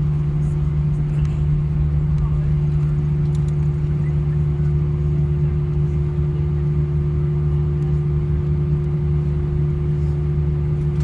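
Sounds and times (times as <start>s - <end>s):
aircraft cabin drone: 0.0s - 11.0s.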